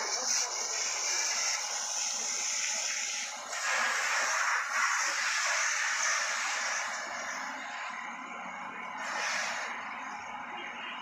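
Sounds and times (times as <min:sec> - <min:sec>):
pressure hose spraying on car: 0:00.0 - 0:07.8, 0:09.0 - 0:10.2.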